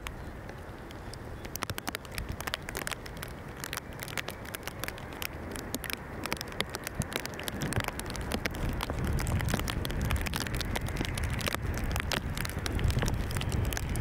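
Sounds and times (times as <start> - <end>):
distant jet engine crackling: 0.0 - 14.0.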